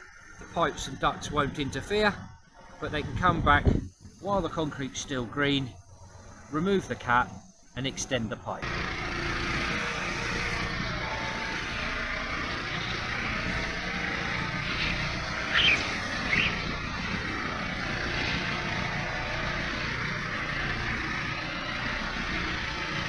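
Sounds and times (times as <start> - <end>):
machinery engine running: 0.0 - 23.0.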